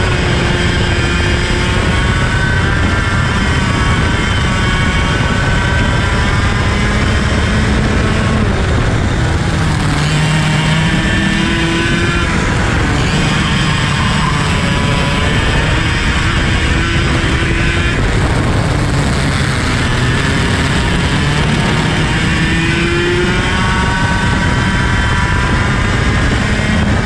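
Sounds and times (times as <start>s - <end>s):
kart engine racing: 0.0s - 27.0s
wind rushing: 0.0s - 27.0s.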